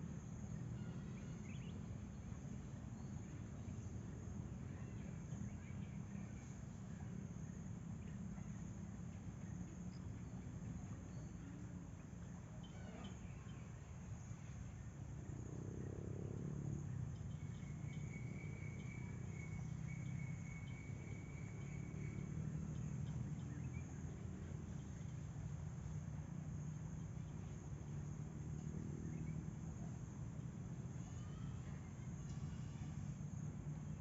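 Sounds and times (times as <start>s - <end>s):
insect lower trill: 0.0s - 34.0s
insects high-pitched drone: 0.0s - 34.0s
low background rumble: 0.0s - 34.0s.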